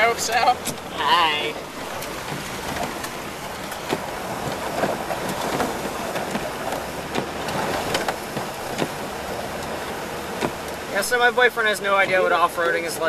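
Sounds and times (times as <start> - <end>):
knocks and rattles over bumps: 0.0 - 13.0
vehicle engine and tyres rumbling: 0.0 - 13.0.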